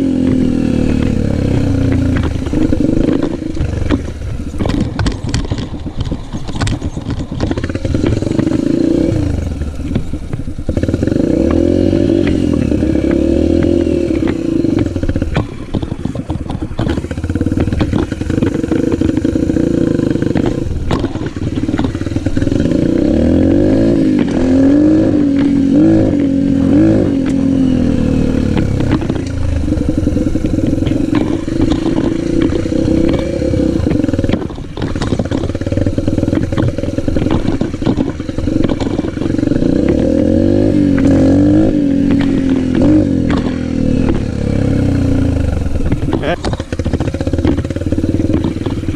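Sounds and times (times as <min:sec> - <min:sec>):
motocross motorcycle engine revving: 0:00.0 - 0:48.9
clicks and clatter: 0:01.0 - 0:12.8, 0:13.6 - 0:26.3, 0:28.3 - 0:44.8, 0:45.4 - 0:48.9.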